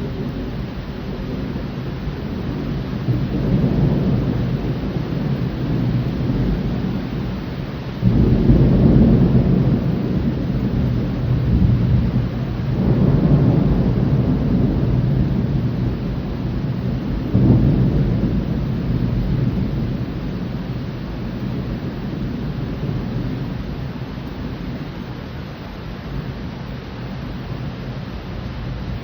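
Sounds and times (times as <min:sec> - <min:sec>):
steady rain: 0:00.0 - 0:29.0
thunder rumbling: 0:00.0 - 0:29.0.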